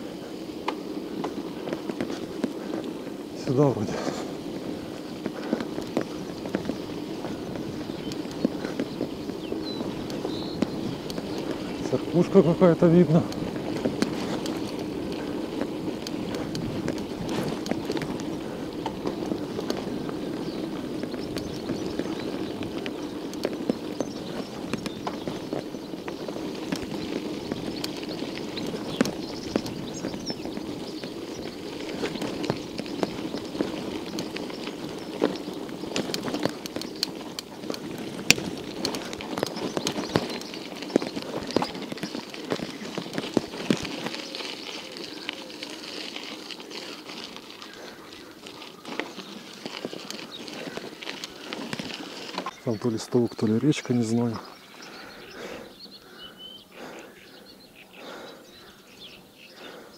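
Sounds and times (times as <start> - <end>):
bike clicks and rattles: 0.0 - 57.0
bike tyre noise on rough road: 0.0 - 59.9.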